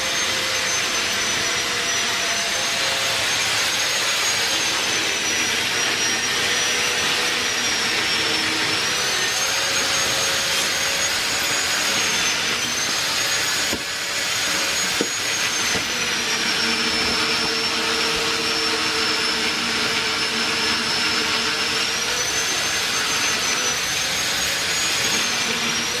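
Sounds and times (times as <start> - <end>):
drilling rig running with whine: 0.0 - 26.0.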